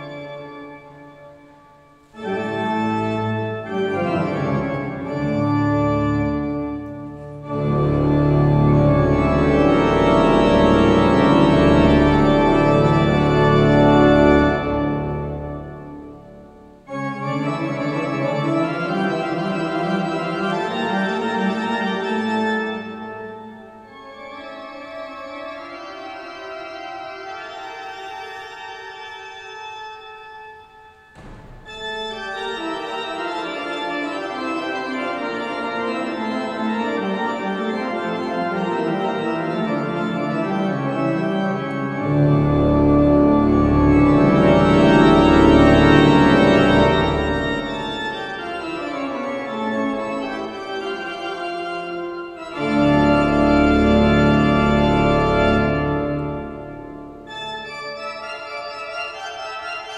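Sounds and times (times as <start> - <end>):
pipe organ chords: 0.0 - 59.9.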